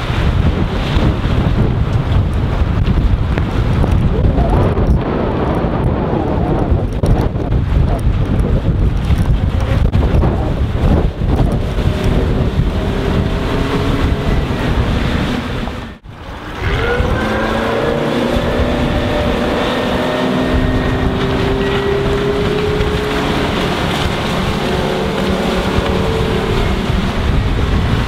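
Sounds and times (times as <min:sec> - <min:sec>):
outboard motor running: 0:00.0 - 0:28.0
wind on microphone: 0:00.0 - 0:28.0.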